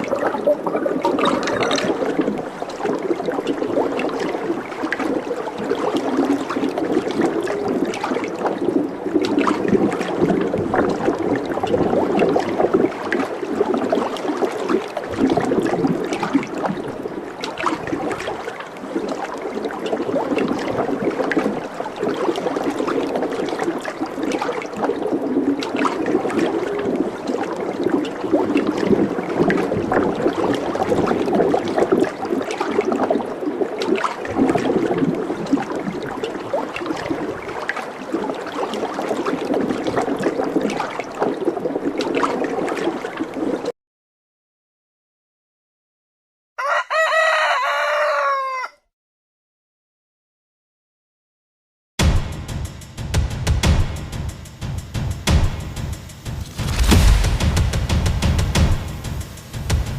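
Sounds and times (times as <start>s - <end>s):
water gurgling and trickling: 0.0s - 43.8s, 54.0s - 59.9s.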